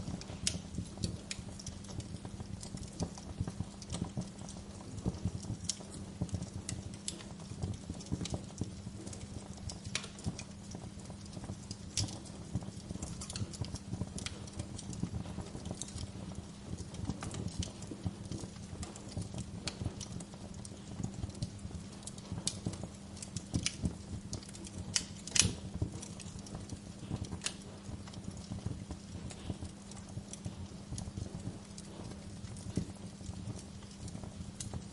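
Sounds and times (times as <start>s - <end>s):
fire crackling in fireplace: 0.0s - 34.9s.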